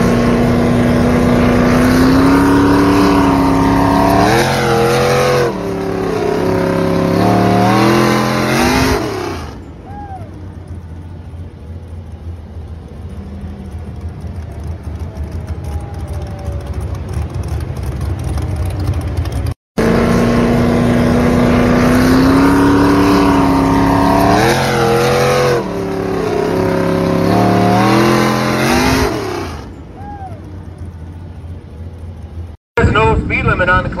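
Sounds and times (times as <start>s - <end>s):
tractor engine revving: 0.0s - 9.9s, 10.5s - 33.9s.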